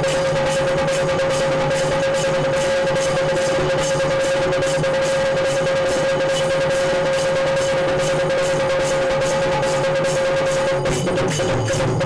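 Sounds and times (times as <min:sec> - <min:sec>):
hand drums fast rhythm: 0:00.0 - 0:12.0
steady held tone: 0:00.0 - 0:12.0.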